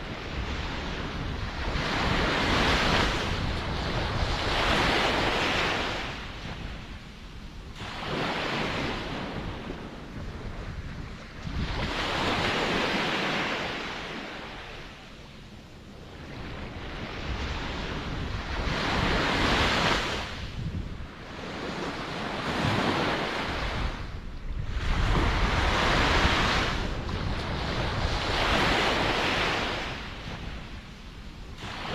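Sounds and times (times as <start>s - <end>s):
wind rumble on microphone: 0.0s - 31.9s
waves breaking: 0.2s - 7.0s, 7.7s - 15.2s, 16.2s - 30.9s, 31.5s - 31.9s.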